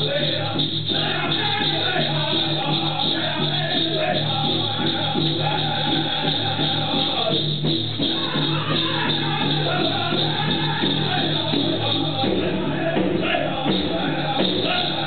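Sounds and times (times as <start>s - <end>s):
high strained group singing: 0.0s - 15.0s
steady drumbeat: 0.0s - 15.0s.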